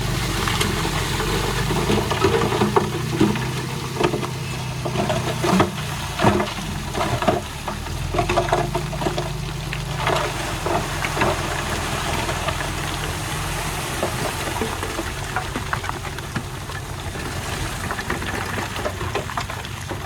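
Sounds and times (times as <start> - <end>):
clanks and rattles: 0.0 - 20.0
diesel engine running: 0.0 - 20.0.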